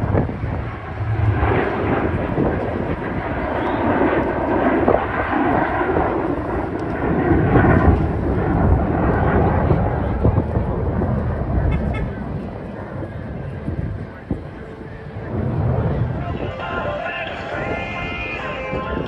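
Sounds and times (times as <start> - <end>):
jet aircraft flying by: 0.0 - 19.0.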